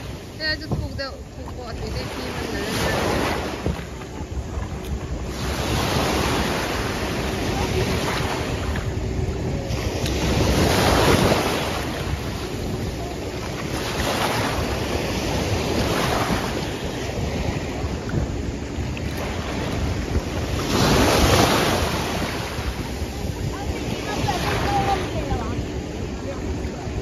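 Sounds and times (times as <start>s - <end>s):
sea water sloshing around legs: 0.0s - 26.8s
wind rumbling on microphone: 0.0s - 27.0s.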